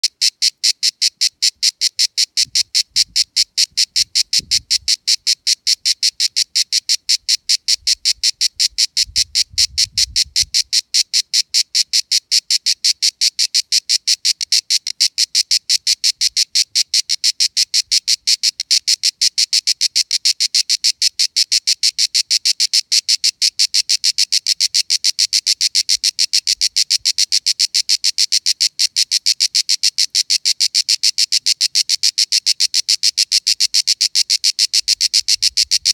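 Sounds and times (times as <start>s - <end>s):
cicada buzzing song: 0.0s - 35.9s.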